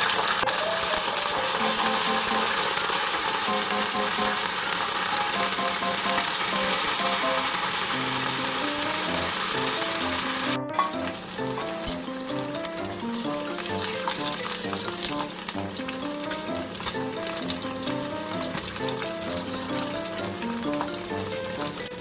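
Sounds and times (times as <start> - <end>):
chicken deep-frying in oil: 0.0 - 22.0
oil crackling and popping: 0.0 - 22.0.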